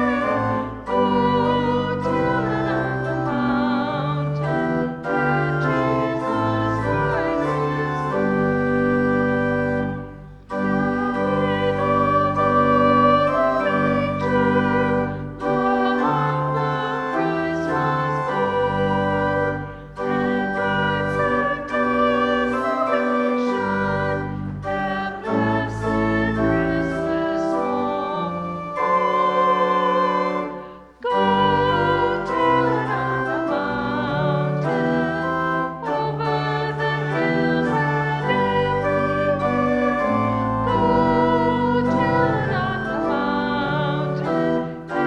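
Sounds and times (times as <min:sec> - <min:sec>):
organ playing sustained chords: 0:00.0 - 0:45.0.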